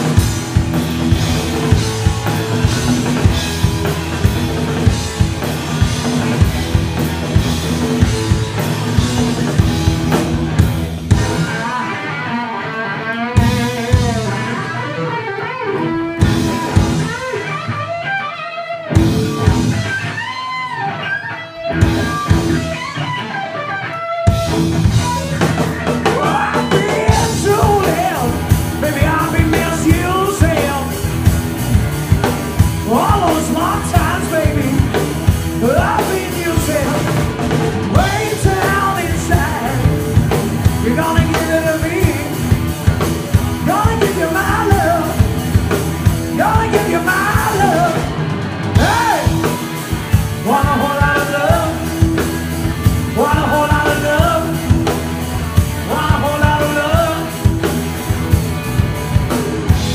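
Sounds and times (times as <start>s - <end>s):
drum kit: 0.0s - 12.4s, 13.4s - 15.2s, 15.8s - 18.2s, 18.8s - 21.0s, 21.6s - 59.9s
bass guitar: 0.0s - 59.9s
electric guitar lead: 0.0s - 59.9s.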